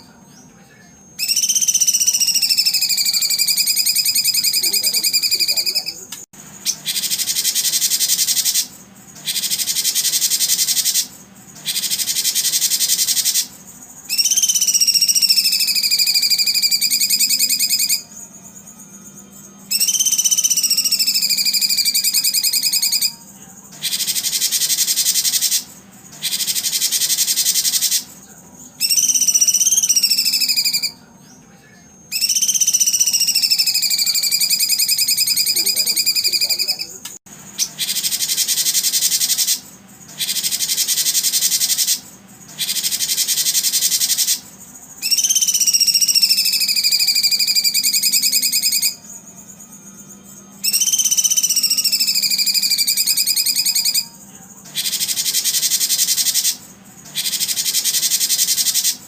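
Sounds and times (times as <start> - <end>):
songbird whistled song: 0.0 - 59.0
buzzy bird trills: 1.1 - 31.4, 32.1 - 59.0.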